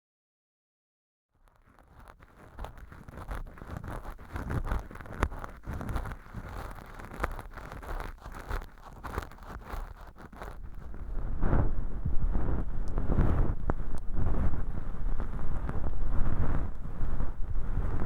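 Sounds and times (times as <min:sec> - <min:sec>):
close-up crackling and rustling: 0:01.4 - 0:18.0.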